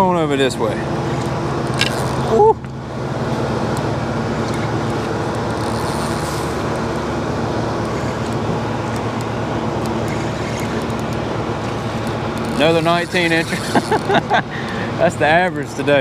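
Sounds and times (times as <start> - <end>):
constant rushing noise: 0.0 - 16.0
low mechanical hum: 0.0 - 16.0.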